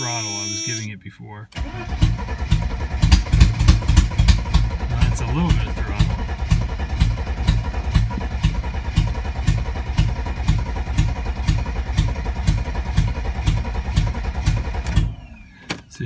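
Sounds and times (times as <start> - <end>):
car engine cranking: 1.5 - 16.0
exhaust pops: 1.6 - 16.0.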